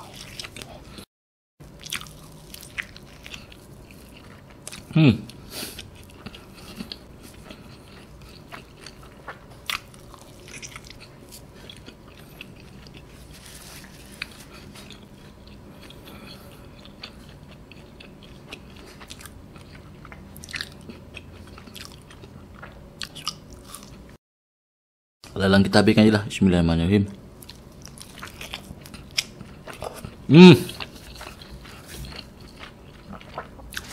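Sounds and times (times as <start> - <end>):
chewing pizza: 0.0 - 1.0, 1.6 - 24.1, 27.4 - 33.9.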